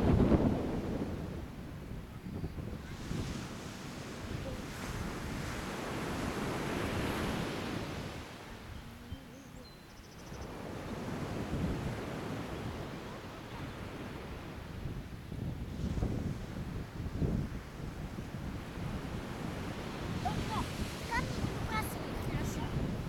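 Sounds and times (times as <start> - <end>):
surf washing onto beach: 0.0 - 8.7, 10.4 - 23.0
wind rumbling on microphone: 0.0 - 23.0.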